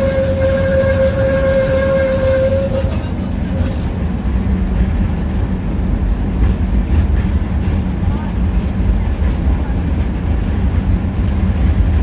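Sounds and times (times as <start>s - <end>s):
low rumble of tram rolling: 0.0s - 12.0s
tram high whine with hiss: 0.0s - 12.0s.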